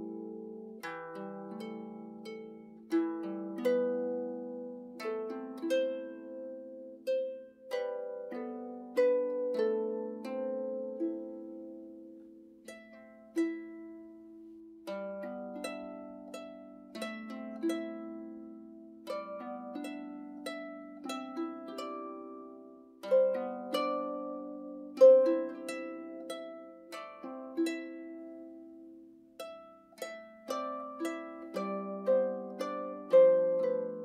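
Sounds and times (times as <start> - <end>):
harp music: 0.0 - 34.0.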